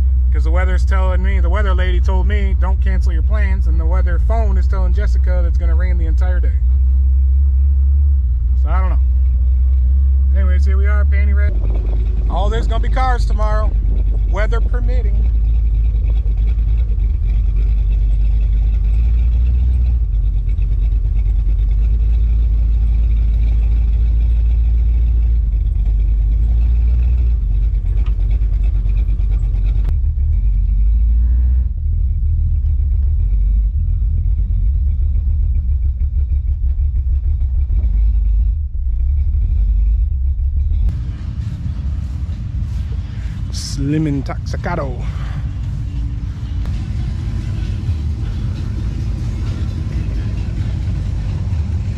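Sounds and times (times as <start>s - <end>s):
car rumbling: 0.0s - 51.9s.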